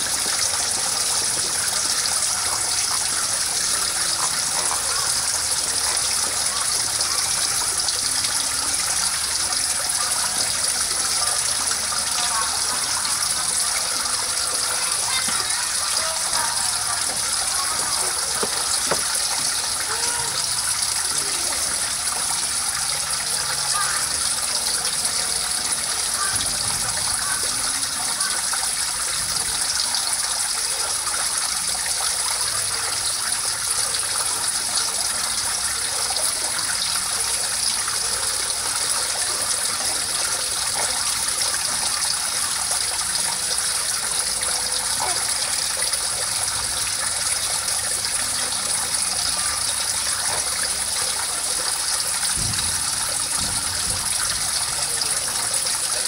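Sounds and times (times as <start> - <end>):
water trickling over concrete step: 0.0 - 56.0.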